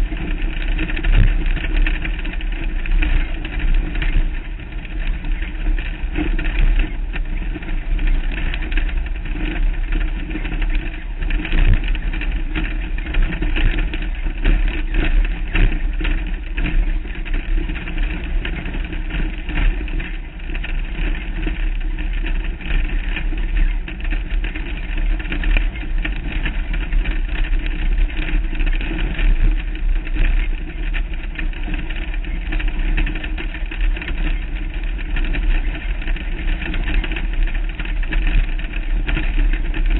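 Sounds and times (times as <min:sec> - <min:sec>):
off-road vehicle engine running: 0:00.0 - 0:39.9
wind rumble on microphone: 0:00.0 - 0:39.9.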